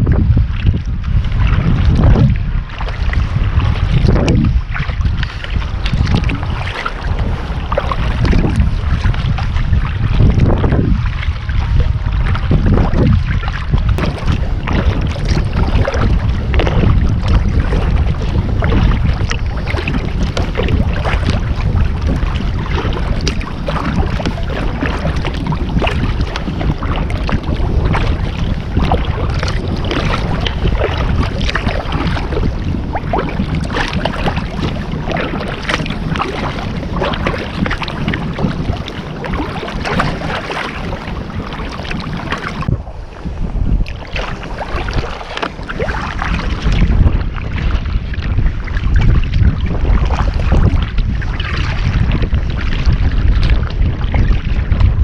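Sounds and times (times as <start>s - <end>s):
water splashing against kayak: 0.0s - 55.0s
wind buffeting microphone: 0.0s - 55.0s.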